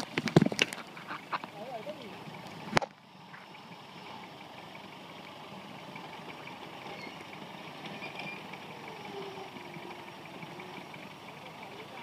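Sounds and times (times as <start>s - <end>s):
four-wheel drive engine idling: 0.0s - 12.0s.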